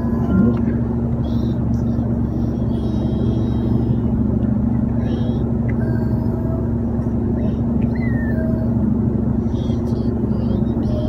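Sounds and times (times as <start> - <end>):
car engine and road rumble: 0.0 - 11.0
droning hum: 0.0 - 11.0.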